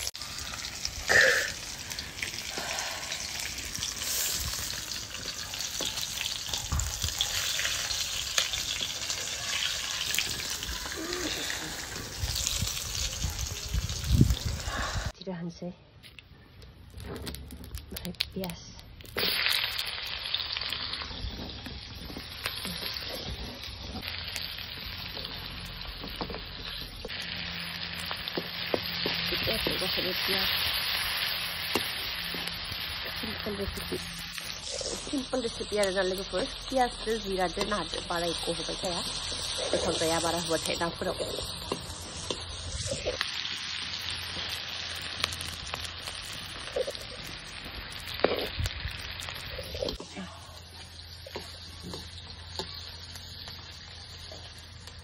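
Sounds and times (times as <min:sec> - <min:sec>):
onions sizzling in hot oil: 0:00.0 - 0:15.2, 0:17.2 - 0:55.0.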